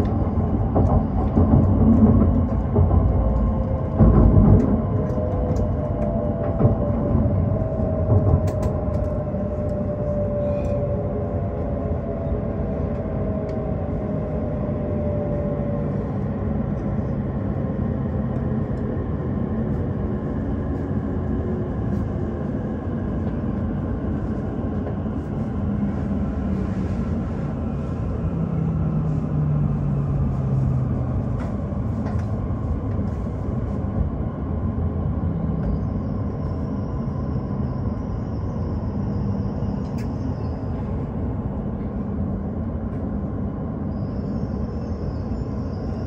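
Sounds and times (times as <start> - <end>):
train running with whine: 0.0 - 46.0.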